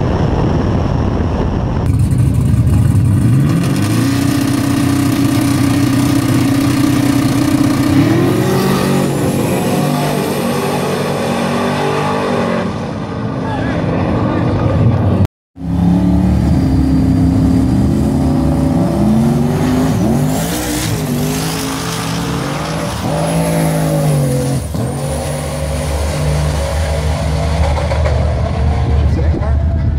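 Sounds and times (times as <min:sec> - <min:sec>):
drag racing engines at full throttle: 0:00.0 - 0:29.9.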